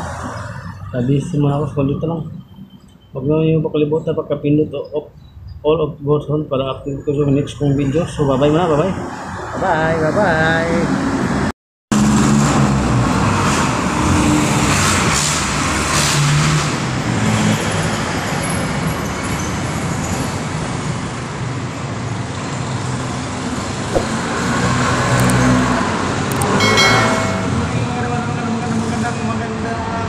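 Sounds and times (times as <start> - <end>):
passing vehicles: 0.0 - 3.2, 7.3 - 30.0.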